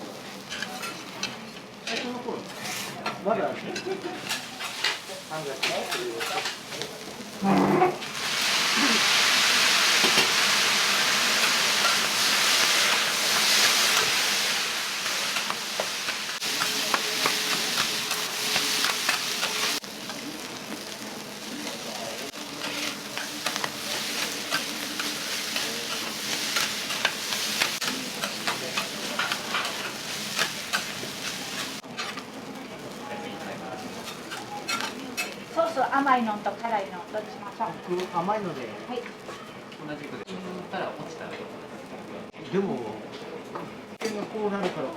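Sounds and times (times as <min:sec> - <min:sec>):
food sizzling on griddle: 0:00.0 - 0:39.2.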